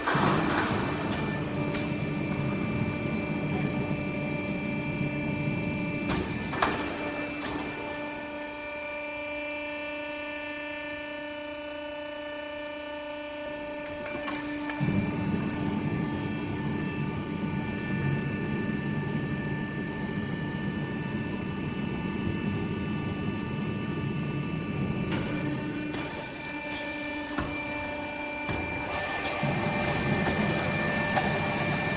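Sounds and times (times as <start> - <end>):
low machine running noise: 0.0 - 31.9
machine hum with whining tones: 0.0 - 31.9.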